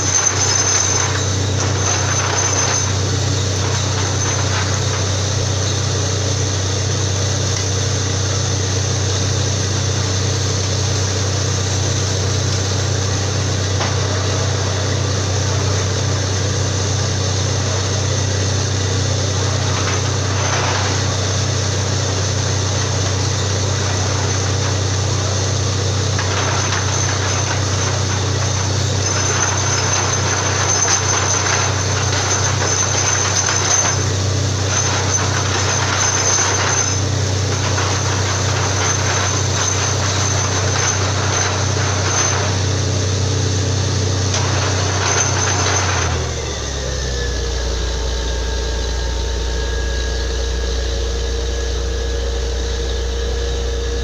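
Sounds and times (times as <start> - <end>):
drilling rig engine drone: 0.0 - 54.0.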